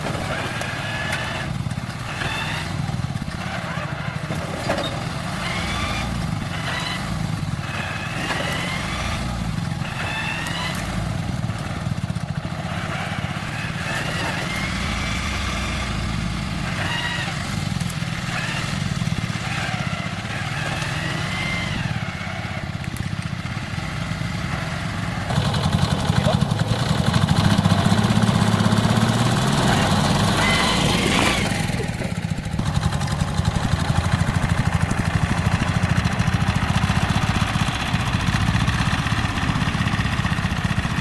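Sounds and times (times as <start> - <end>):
small tractor engine putter: 0.0 - 41.0.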